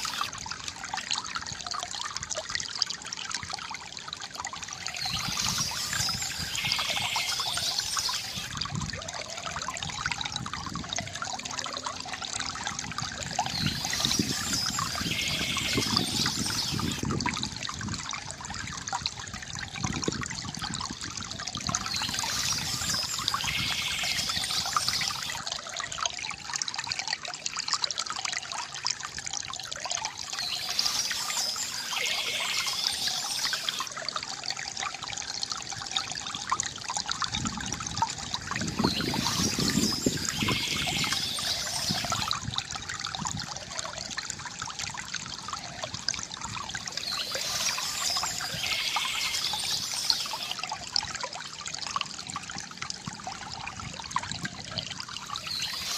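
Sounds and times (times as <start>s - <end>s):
fountain water trickling: 0.0s - 55.9s.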